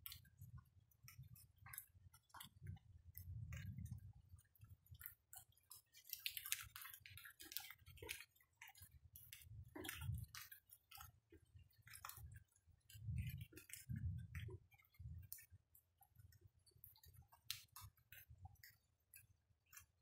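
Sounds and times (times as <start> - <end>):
raindrops ticking and tapping: 0.0 - 20.0.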